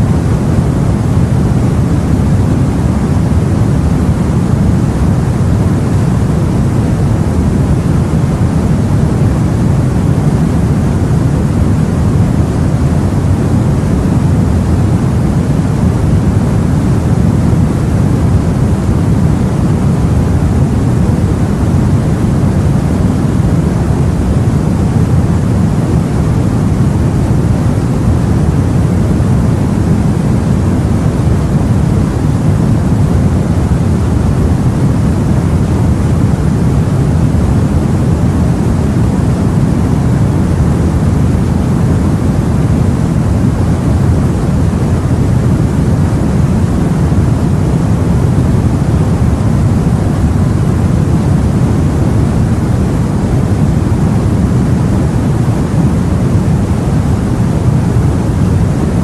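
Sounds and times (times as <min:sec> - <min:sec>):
low rumble of sea aboard boat: 0:00.0 - 0:59.0.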